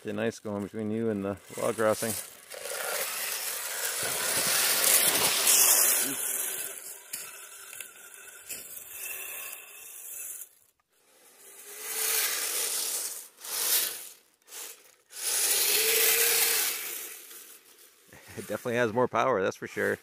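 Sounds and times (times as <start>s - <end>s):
small electric motors whining: 0.0s - 18.9s
vehicles scraping over snow and ice: 0.0s - 19.1s.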